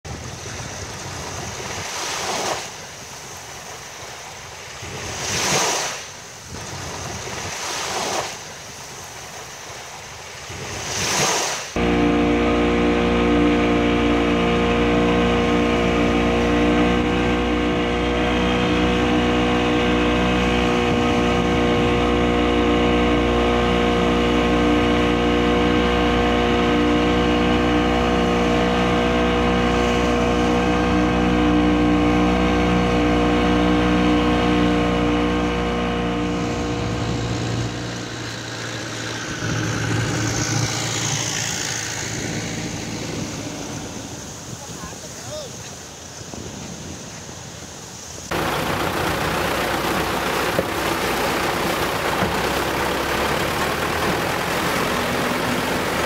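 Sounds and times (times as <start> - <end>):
boat over choppy water: 0.0 - 56.0
small waves washing onto shore: 0.0 - 56.0
outboard motor drone: 0.1 - 47.0, 48.2 - 56.0.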